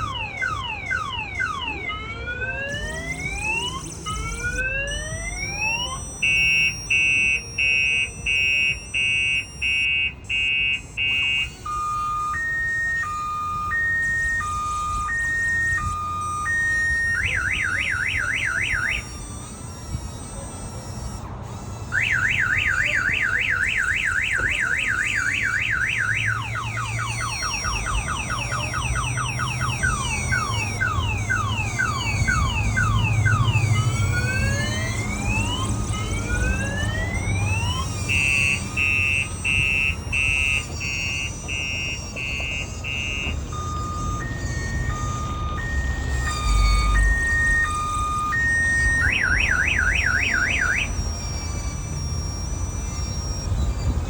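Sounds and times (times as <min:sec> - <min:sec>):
car alarm siren cycling tones: 0:00.0 - 0:54.0.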